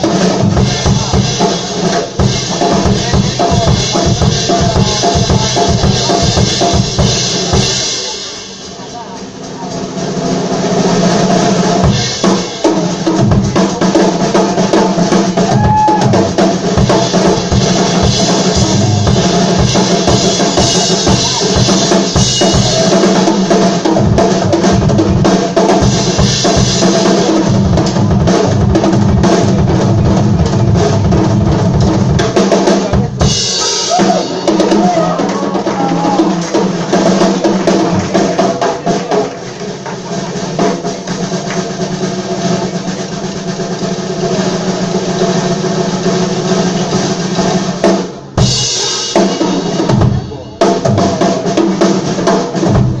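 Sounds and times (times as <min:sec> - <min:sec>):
bass drum and snare beat: 0:00.0 - 0:08.1, 0:10.3 - 0:53.0
live band playing: 0:00.0 - 0:53.0.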